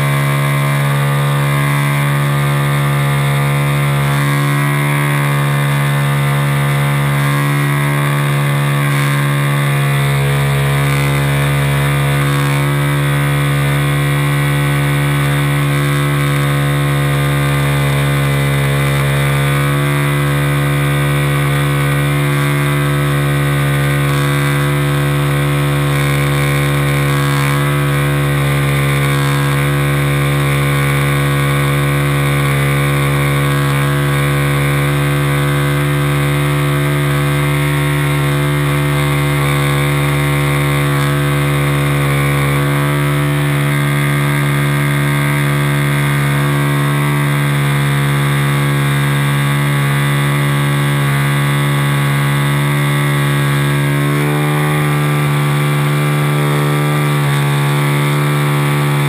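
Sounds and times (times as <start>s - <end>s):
model airplane motor and propeller: 0.0s - 59.0s.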